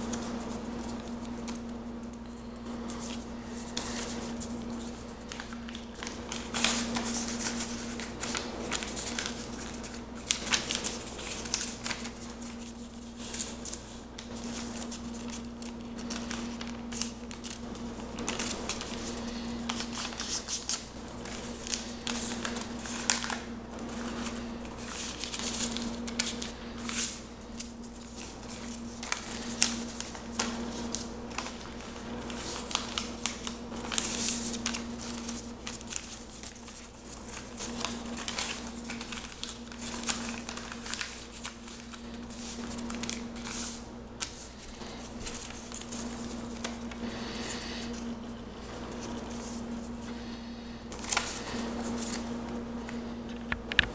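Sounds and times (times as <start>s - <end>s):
paper fold swishes: 0.0s - 50.1s, 50.9s - 53.0s
paper rustling and crinkling: 0.0s - 53.9s
steady low hum: 0.0s - 53.9s.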